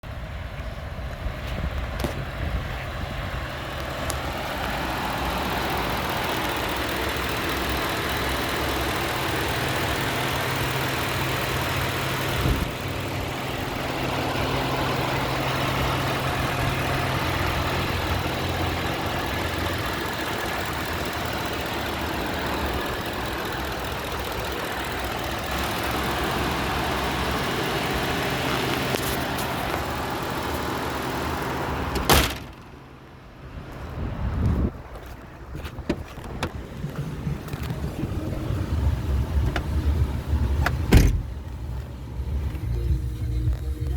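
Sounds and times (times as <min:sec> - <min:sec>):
truck engine idling: 0:00.1 - 0:43.9.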